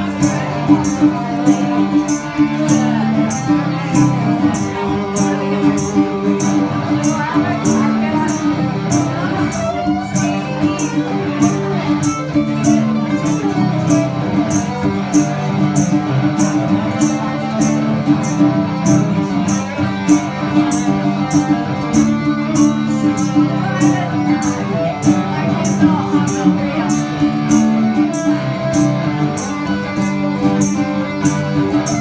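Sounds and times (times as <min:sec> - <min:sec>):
electric guitars playing: 0:00.0 - 0:32.0
high ticking beat: 0:00.0 - 0:32.0.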